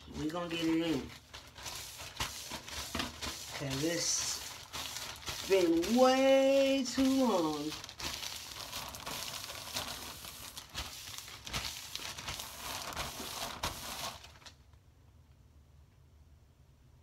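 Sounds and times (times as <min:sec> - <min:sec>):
plastic bag crinkling: 0:00.0 - 0:14.7.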